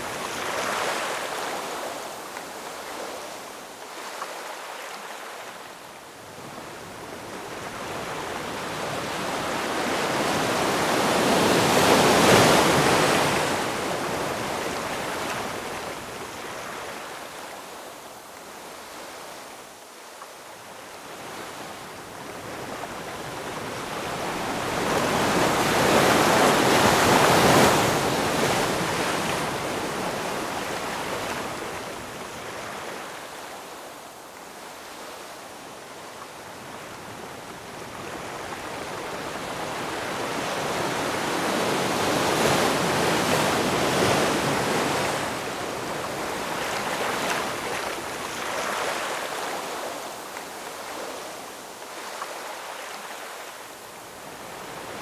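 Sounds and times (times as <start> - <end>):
ocean waves breaking on shore: 0.0 - 19.6, 20.7 - 55.0.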